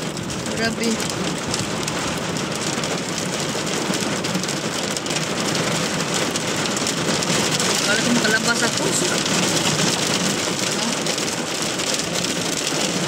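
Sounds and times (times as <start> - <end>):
heavy rain drumming on car roof: 0.0 - 13.0.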